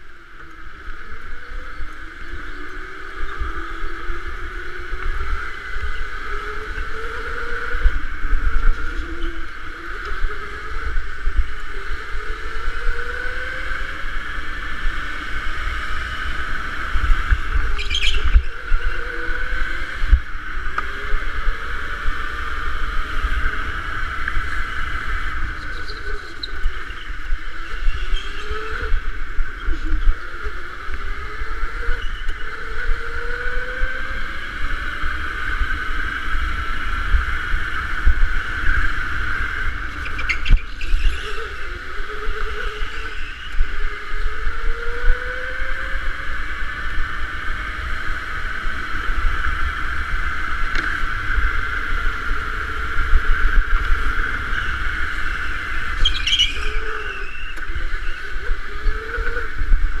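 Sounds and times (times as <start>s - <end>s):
electric motor whine: 0.0s - 60.0s
lower whine rising in pitch: 0.0s - 60.0s.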